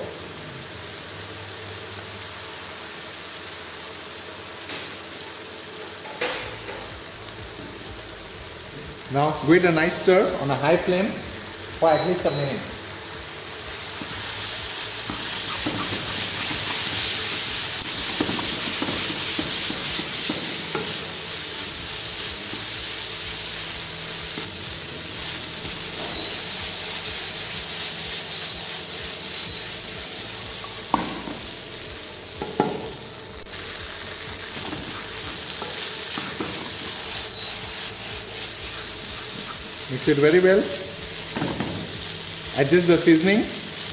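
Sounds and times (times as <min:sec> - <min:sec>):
noodles sizzling in a pan: 0:00.0 - 0:43.9.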